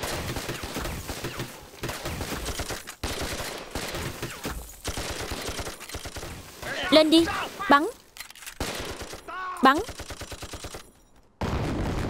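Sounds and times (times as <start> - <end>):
rapid gunfire volleys: 0.0 - 7.2, 8.5 - 12.0.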